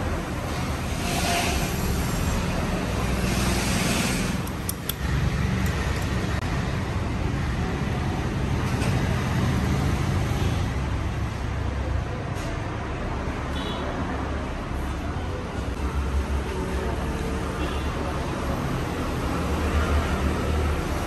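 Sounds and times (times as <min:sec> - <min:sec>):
low rumble of passing traffic: 0:00.0 - 0:21.0.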